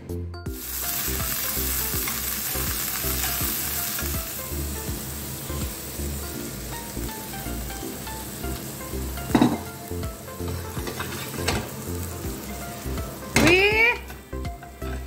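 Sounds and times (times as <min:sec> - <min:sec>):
soft background music: 0:00.0 - 0:15.0
egg sizzling in oil: 0:00.5 - 0:14.6.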